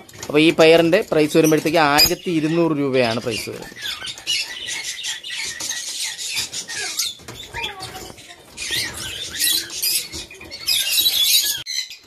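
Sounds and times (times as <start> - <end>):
lovebirds chirping: 0.2 - 12.0.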